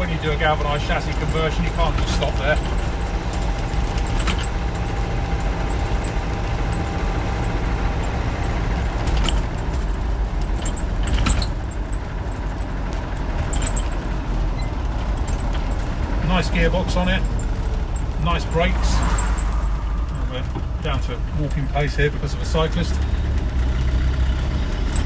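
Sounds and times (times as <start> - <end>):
diesel engine running: 0.0 - 25.0
road noise: 0.0 - 25.0.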